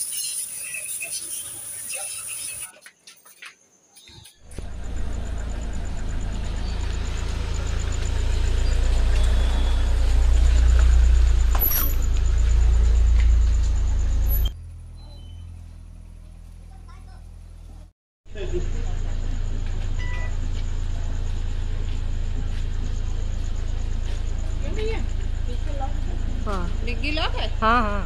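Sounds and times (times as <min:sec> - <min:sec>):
car road and engine rumble: 0:04.4 - 0:28.0.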